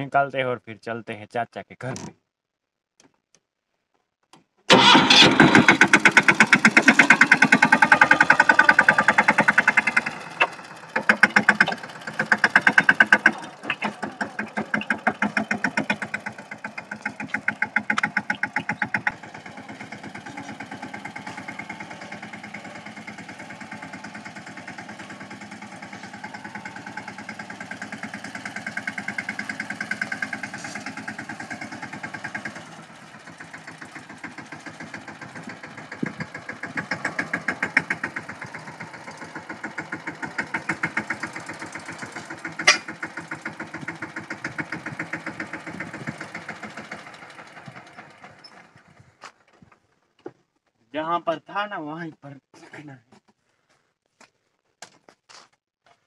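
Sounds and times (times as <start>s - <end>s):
tractor diesel engine running: 4.7s - 50.3s.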